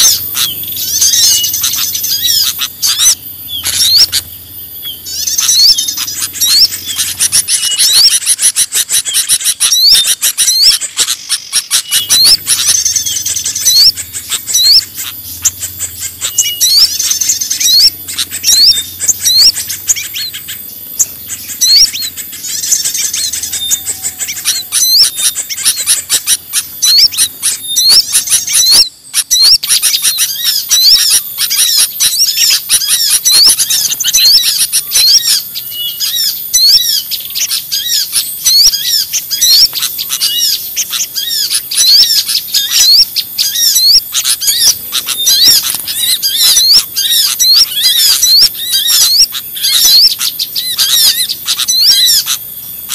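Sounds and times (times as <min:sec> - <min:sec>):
songbirds chirping and calling: 0:00.0 - 0:52.9
steady high hiss: 0:00.0 - 0:52.9.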